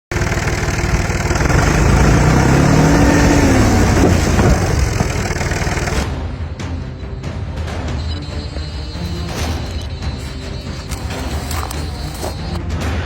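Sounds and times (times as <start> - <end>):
tractor engine rumbling: 0.1 - 12.6.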